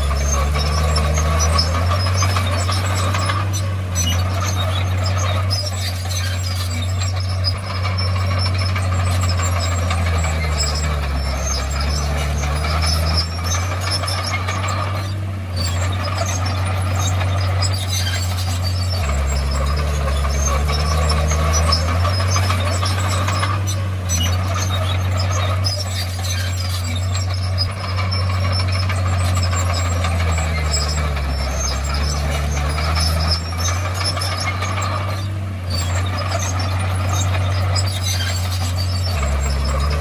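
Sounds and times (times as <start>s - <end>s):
bulldozer diesel engine running hard: 0.0s - 40.0s
high squeaks: 0.0s - 40.0s.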